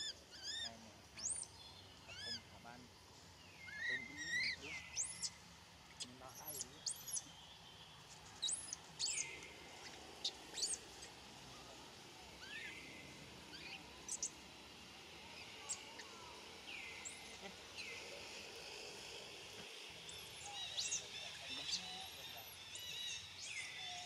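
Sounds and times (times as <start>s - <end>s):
high-pitched chirping calls: 0.0s - 2.6s, 3.5s - 5.4s, 6.0s - 7.5s, 8.4s - 14.4s, 15.0s - 18.4s, 19.9s - 24.0s
faint background hiss: 0.0s - 24.0s.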